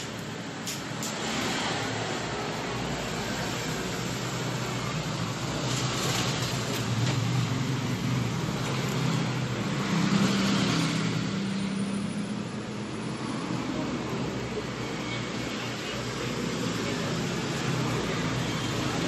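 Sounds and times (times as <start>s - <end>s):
road vehicle rumble: 0.0s - 19.0s.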